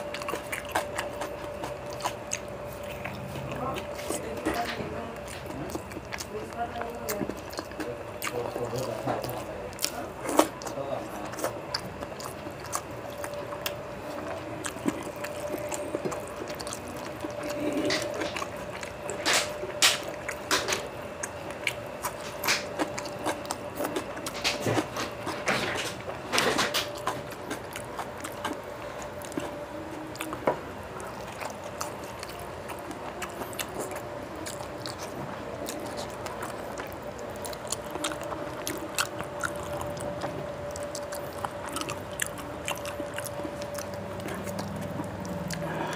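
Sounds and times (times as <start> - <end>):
faint steady hum: 0.0 - 45.9
wet chewing and smacking: 0.0 - 45.9.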